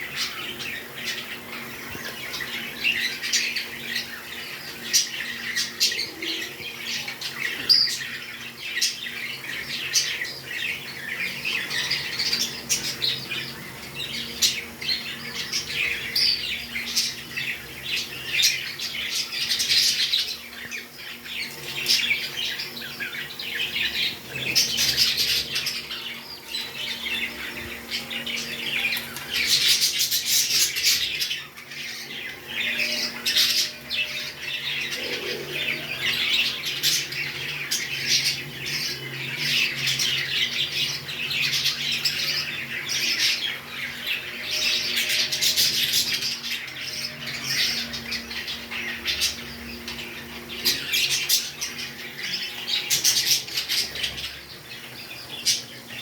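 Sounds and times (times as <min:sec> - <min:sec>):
parrots chirping and squawking: 0:00.0 - 0:56.0.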